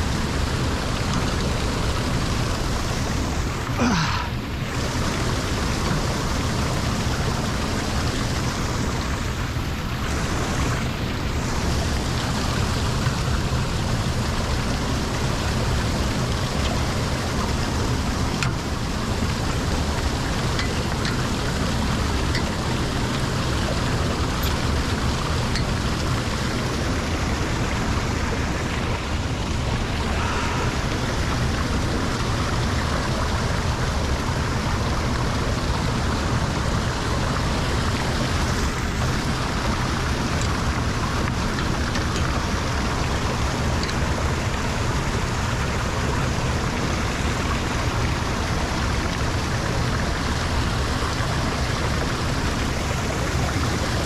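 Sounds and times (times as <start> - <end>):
water rushing into drain: 0.0 - 54.0.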